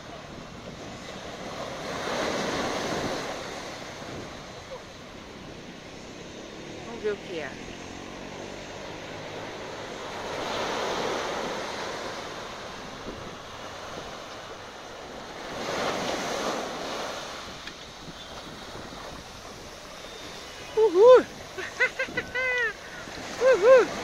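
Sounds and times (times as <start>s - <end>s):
waves breaking on sandy beach: 0.0s - 24.0s.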